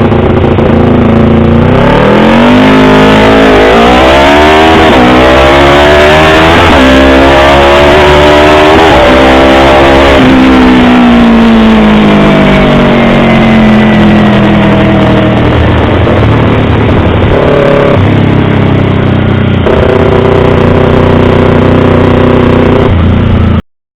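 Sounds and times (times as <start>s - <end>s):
motorcycle engine accelerating: 0.0s - 23.6s.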